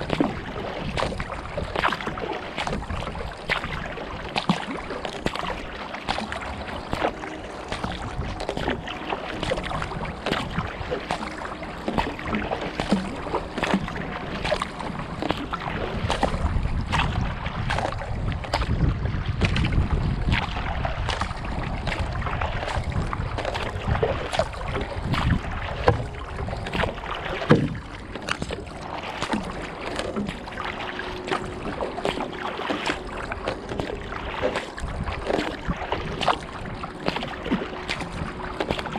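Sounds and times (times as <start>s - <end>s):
paddle blades splashing: 0.0s - 38.9s
wind rumble on microphone: 0.0s - 38.9s.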